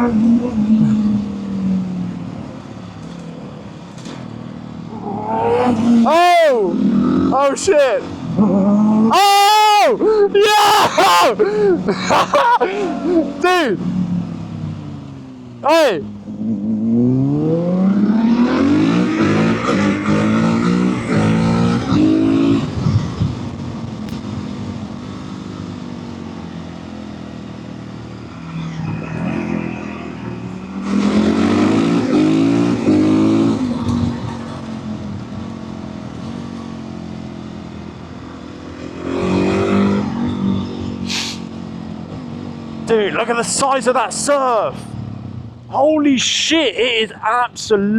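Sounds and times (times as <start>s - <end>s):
motorcycle engine accelerating: 0.0s - 9.2s, 11.4s - 46.0s.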